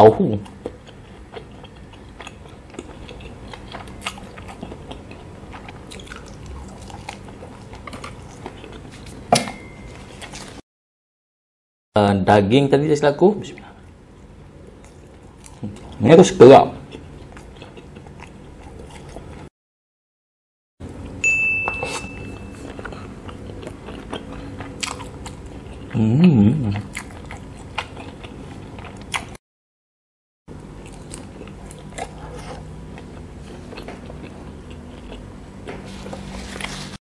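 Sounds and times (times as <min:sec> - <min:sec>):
biting and chewing sausages: 0:00.3 - 0:10.6, 0:13.8 - 0:19.5, 0:21.8 - 0:29.4, 0:30.5 - 0:37.0.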